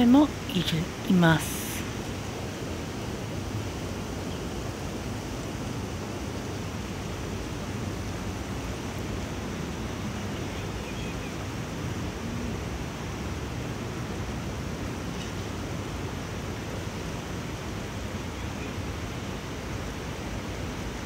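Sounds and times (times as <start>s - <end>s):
shallow river water rushing: 0.0s - 21.0s.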